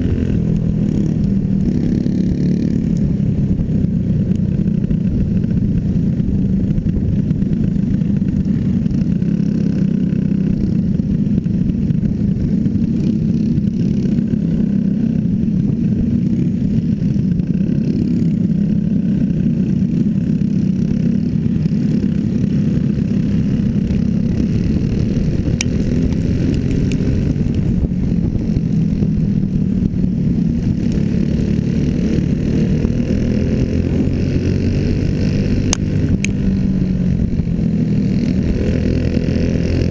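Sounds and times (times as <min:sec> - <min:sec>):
racing motorcycle engine running: 0:00.0 - 0:39.9.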